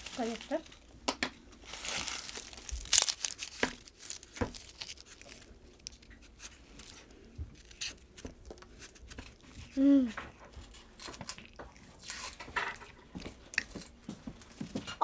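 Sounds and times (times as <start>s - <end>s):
crinkling and tearing: 0.0s - 14.5s.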